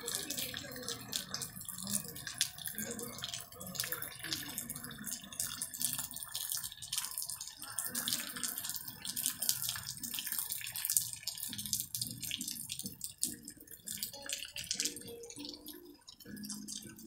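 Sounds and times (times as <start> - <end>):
rain on wet concrete: 0.0 - 17.0.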